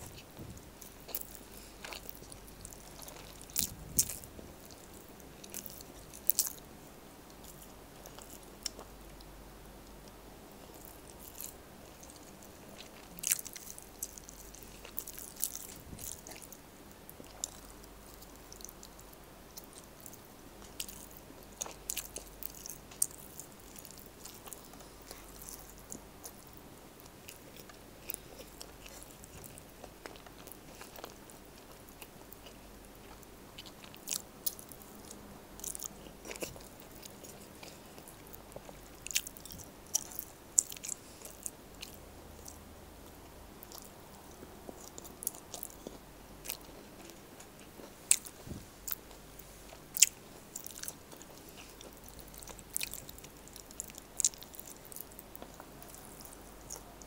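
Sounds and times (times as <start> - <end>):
chewing and wet mouth sounds: 0.0 - 6.7, 7.3 - 57.0.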